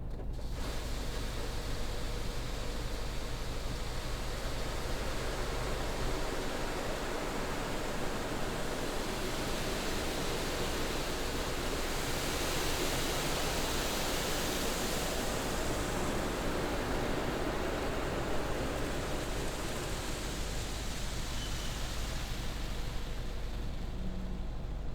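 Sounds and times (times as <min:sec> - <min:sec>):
car wash machinery rushing: 0:00.0 - 0:24.9.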